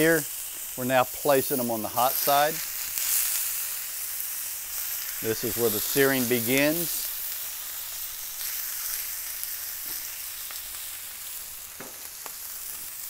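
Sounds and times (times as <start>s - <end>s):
steaks sizzling on a griddle: 0.0s - 13.0s.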